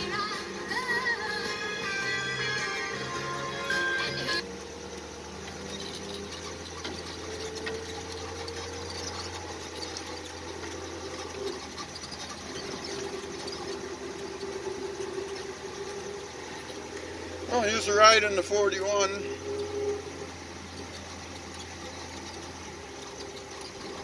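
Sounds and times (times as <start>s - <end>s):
light rattles: 0.0s - 24.0s
truck engine hum and whine: 0.0s - 24.0s.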